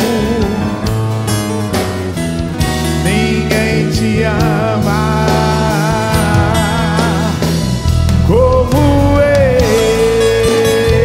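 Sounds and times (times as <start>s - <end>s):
live band guitar held note: 0.0s - 11.0s.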